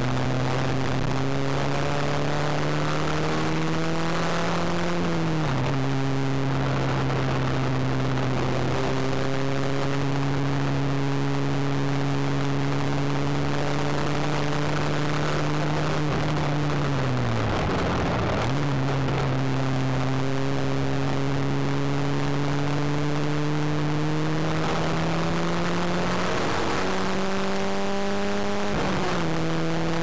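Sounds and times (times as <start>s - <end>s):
car engine running: 0.0s - 30.0s
road and wind noise: 0.0s - 30.0s.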